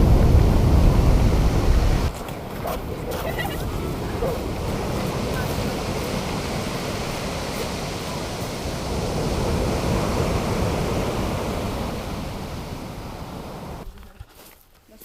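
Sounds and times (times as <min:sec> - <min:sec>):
ocean surf breaking: 0:00.0 - 0:13.9.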